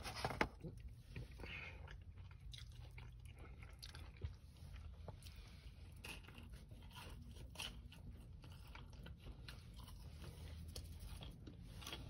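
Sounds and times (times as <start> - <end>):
chewing crunchy fried food: 0.5 - 12.0.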